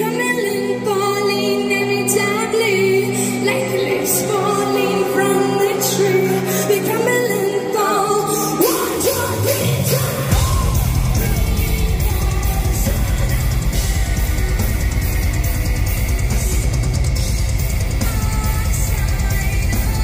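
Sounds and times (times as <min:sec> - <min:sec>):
heavy guitars: 0:00.0 - 0:20.0
person singing: 0:00.0 - 0:20.0.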